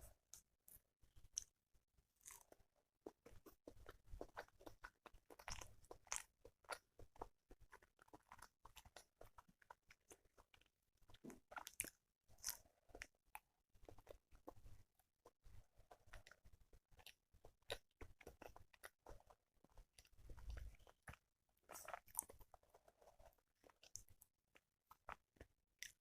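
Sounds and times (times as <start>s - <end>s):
mouth chewing clicks and smacks: 0.3s - 1.6s, 2.2s - 26.0s.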